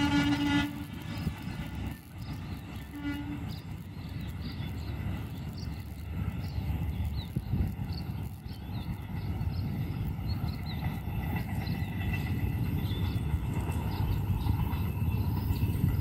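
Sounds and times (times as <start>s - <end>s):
train rumbling: 0.0s - 16.0s
small birds chirping: 1.0s - 16.0s.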